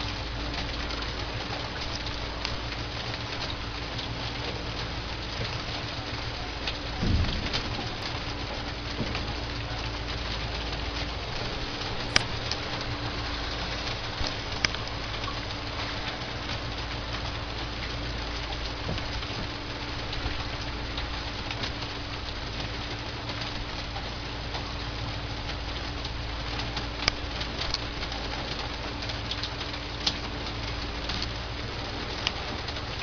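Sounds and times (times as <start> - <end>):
armoured vehicle engine idling: 0.0 - 33.0.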